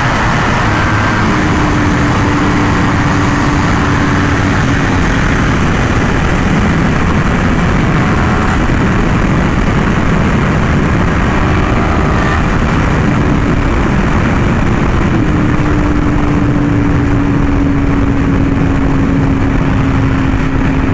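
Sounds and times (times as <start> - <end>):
motorcycle engine at high speed: 0.0 - 20.9
wind noise: 0.0 - 20.9.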